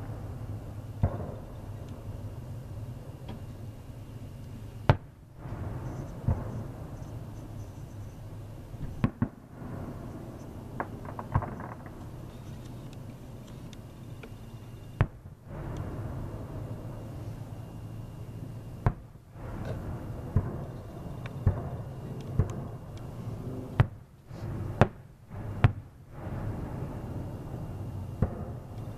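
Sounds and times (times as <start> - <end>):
fireworks bangs: 0.0 - 3.5, 4.8 - 12.4, 15.0 - 28.9
steady low hum: 0.0 - 28.9.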